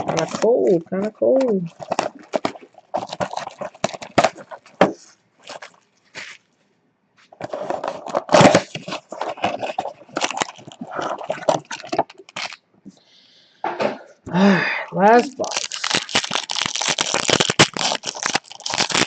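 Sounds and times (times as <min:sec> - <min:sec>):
card pack wrappers crinkling: 0:00.0 - 0:06.4, 0:07.3 - 0:12.6, 0:15.1 - 0:19.0.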